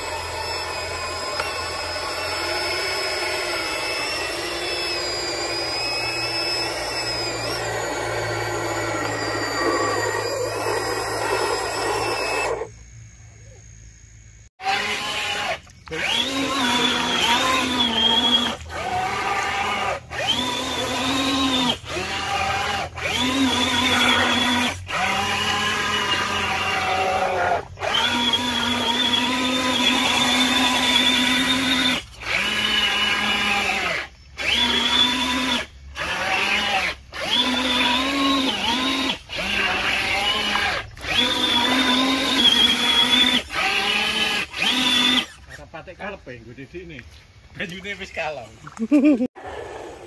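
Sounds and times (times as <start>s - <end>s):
rc truck motor whining: 0.0s - 13.2s, 14.6s - 45.8s.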